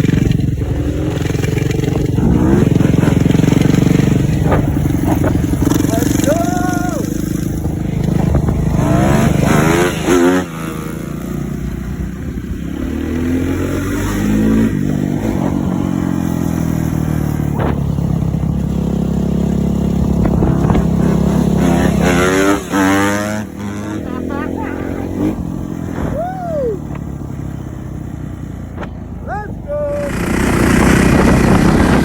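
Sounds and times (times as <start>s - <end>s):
motocross bike engine revving: 0.0s - 32.0s.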